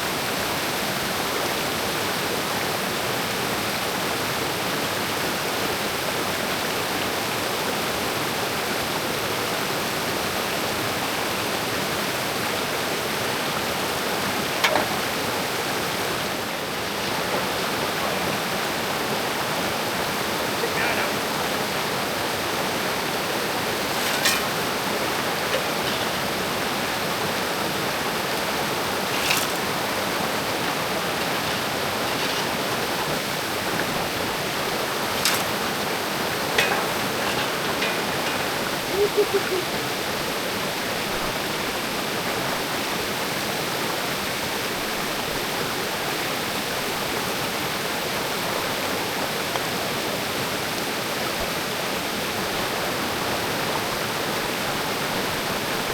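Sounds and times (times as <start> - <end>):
creek water rushing: 0.0 - 55.9.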